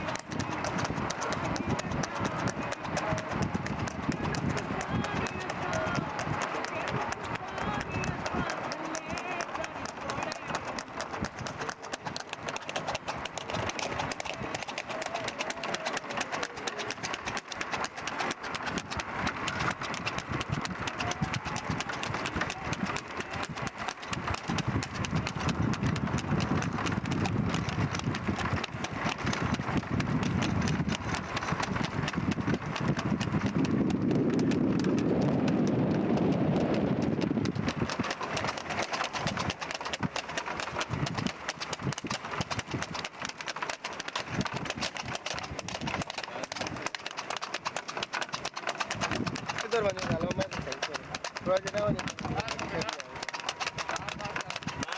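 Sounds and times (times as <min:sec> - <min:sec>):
horse hooves clip-clopping on pavement: 0:00.0 - 0:54.9.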